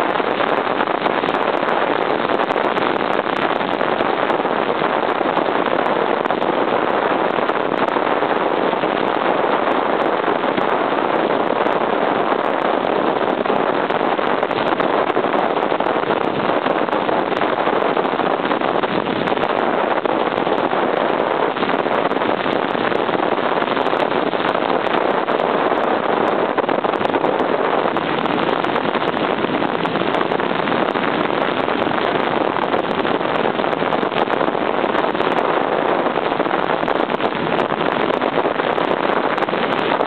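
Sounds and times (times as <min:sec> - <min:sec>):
motorcycle engine and road noise: 0:00.0 - 0:40.0
wind rushing on microphone: 0:00.0 - 0:40.0.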